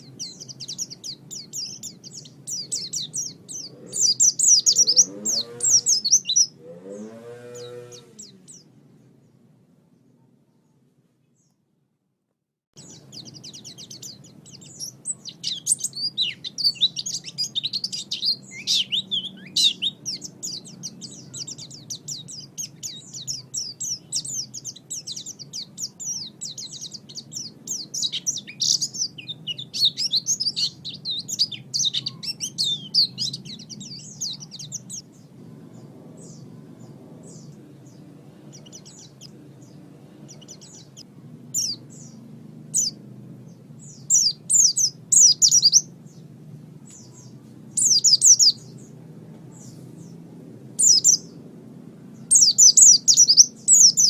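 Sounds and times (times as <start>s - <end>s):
bird twittering song: 0.0s - 11.6s, 12.8s - 54.0s
low background noise: 0.0s - 54.0s.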